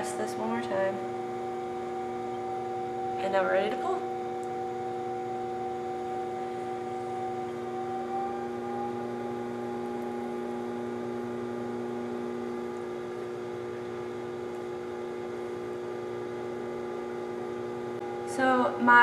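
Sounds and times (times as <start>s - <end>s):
pottery wheel motor humming: 0.0s - 19.0s.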